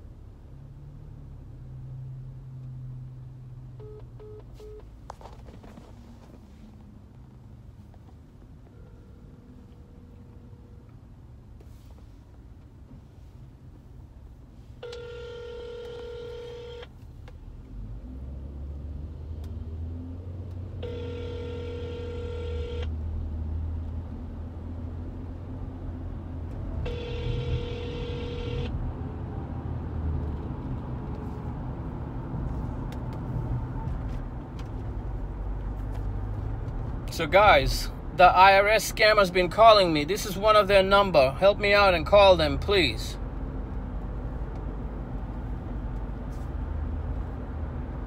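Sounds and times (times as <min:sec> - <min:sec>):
low car rumble: 0:00.0 - 0:48.0.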